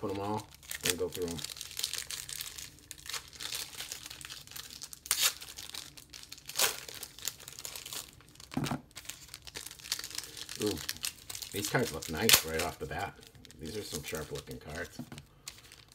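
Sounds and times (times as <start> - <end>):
wrappers torn and crinkled: 0.0 - 15.9.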